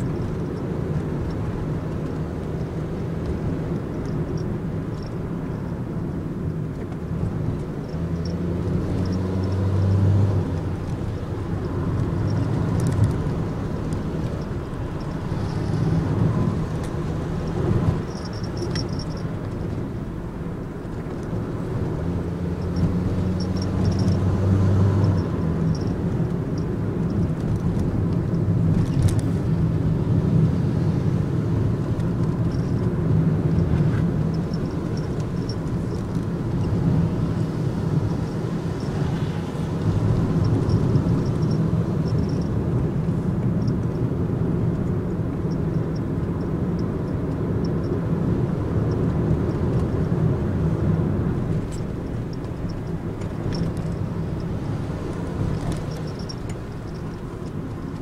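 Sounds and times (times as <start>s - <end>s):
road rumble: 0.0s - 58.0s
van engine drone in cabin: 0.0s - 58.0s.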